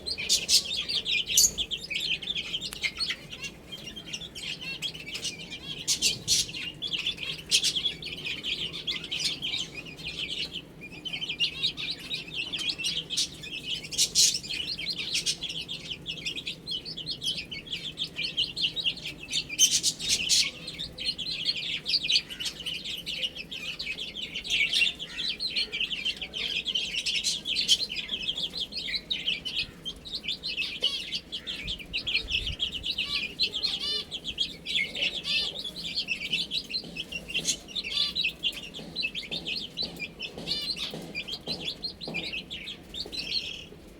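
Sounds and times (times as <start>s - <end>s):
baby chicks peeping: 0.0s - 43.9s.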